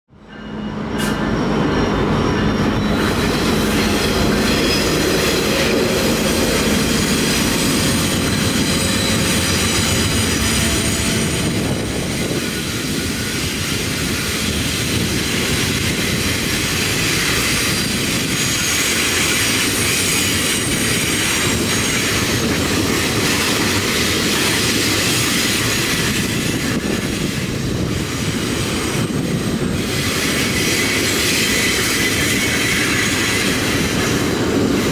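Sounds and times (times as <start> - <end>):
diesel locomotive engine drone: 0.1 - 34.9
train wheel squeal: 0.1 - 34.9.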